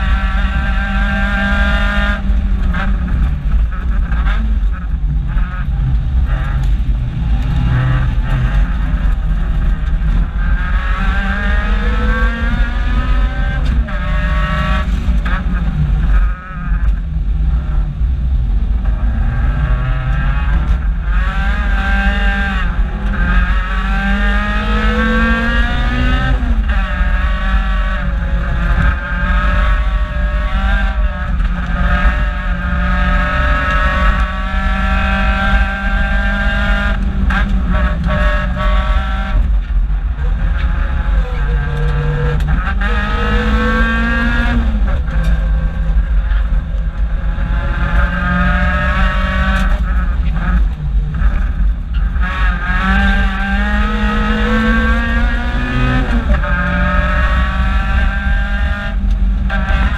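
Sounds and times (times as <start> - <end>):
car engine revving through gears: 0.0 - 59.9
low road rumble: 0.0 - 59.9.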